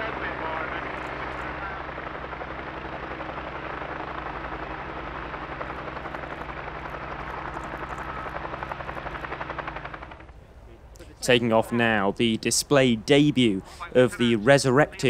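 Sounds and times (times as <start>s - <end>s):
helicopter engine drone: 0.0s - 15.0s
helicopter rotor beat: 0.0s - 15.0s.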